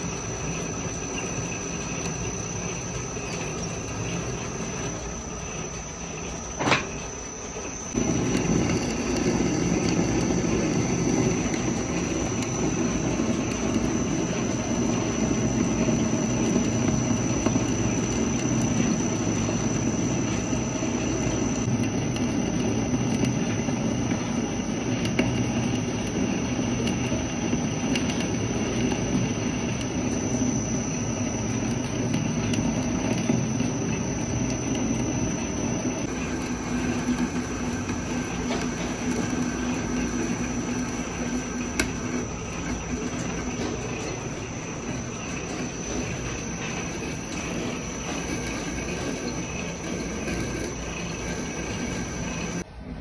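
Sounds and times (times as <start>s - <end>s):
metal lathe running: 0.0s - 52.7s
thin high whine: 0.0s - 53.0s.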